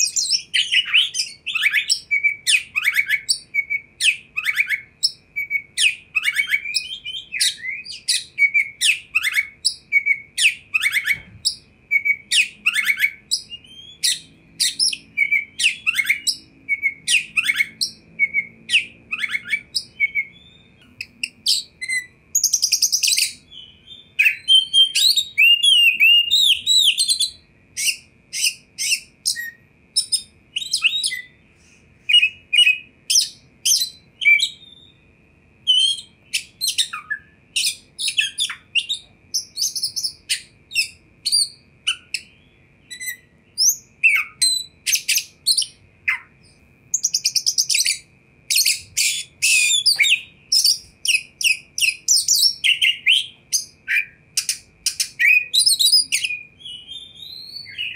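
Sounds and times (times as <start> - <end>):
bird singing high whistled notes: 0.0 - 57.9.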